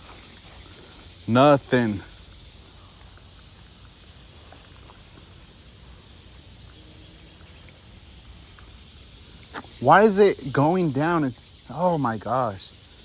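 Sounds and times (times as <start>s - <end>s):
faint outdoor background hiss: 0.0s - 13.0s.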